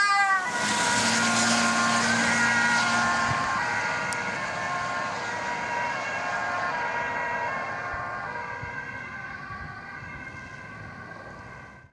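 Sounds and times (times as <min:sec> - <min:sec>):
ambulance two-tone siren: 0:00.0 - 0:11.9.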